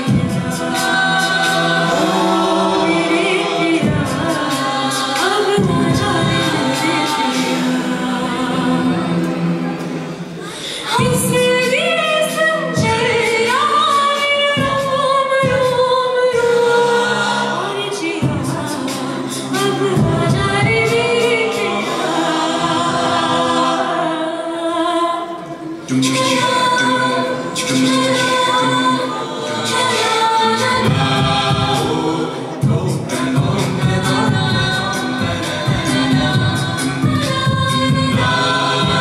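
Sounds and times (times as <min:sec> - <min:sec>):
a cappella group singing: 0:00.0 - 0:39.0.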